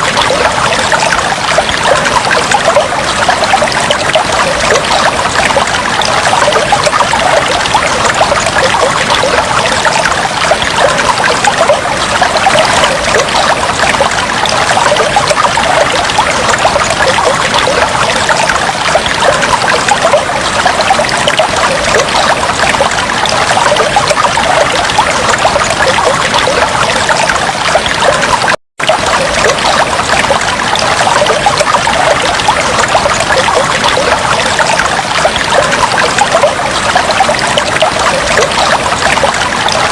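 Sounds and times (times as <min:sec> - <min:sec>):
fish tank water bubbling: 0:00.0 - 0:39.9.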